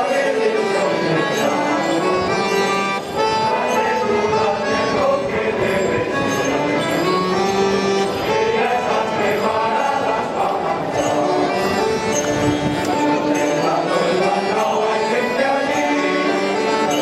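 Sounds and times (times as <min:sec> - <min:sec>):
accordion: 0:00.0 - 0:17.0
men's choir singing: 0:00.0 - 0:17.0.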